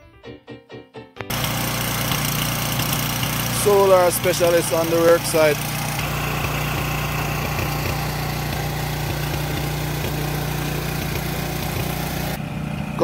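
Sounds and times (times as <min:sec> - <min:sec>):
generator engine humming: 0:01.3 - 0:13.0.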